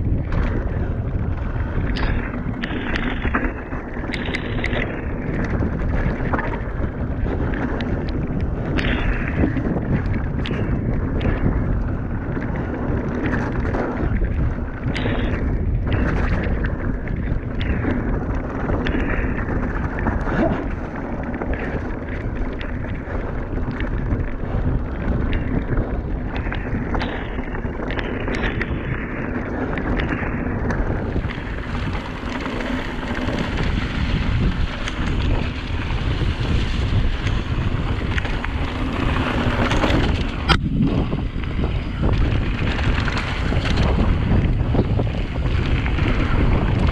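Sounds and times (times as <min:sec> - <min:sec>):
bike rattling and knocking: 0:00.0 - 0:46.9
tyres rumbling over dirt trail: 0:00.0 - 0:46.9
wind buffeting microphone: 0:00.0 - 0:46.9.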